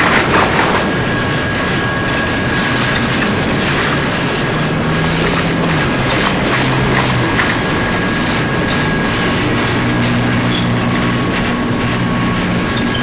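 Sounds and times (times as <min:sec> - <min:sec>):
freight train wheels rushing: 0:00.0 - 0:13.0.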